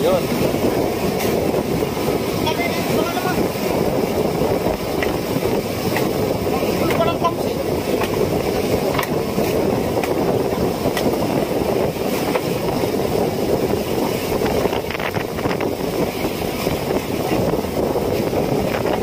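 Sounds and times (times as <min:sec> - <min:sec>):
boat engine running: 0:00.0 - 0:19.0
wind noise on microphone: 0:00.0 - 0:19.0.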